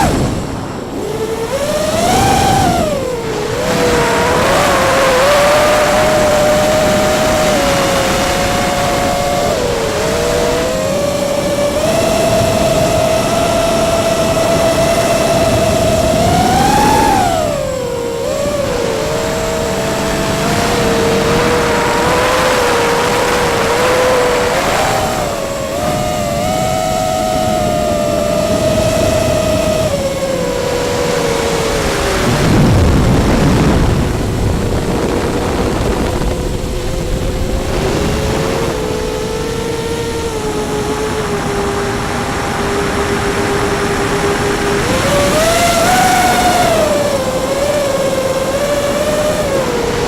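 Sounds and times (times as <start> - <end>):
electric motors whining: 0.0 - 50.0
wind noise: 0.0 - 50.0.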